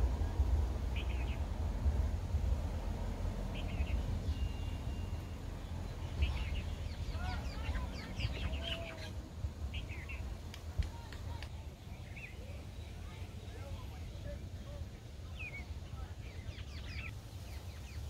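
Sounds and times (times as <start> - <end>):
birds chirping: 0.0 - 1.6, 3.2 - 18.0
steady low rumble: 0.0 - 18.0.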